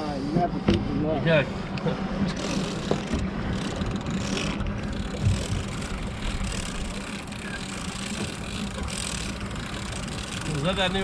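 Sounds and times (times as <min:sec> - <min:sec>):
boat engine idling: 0:01.3 - 0:11.0.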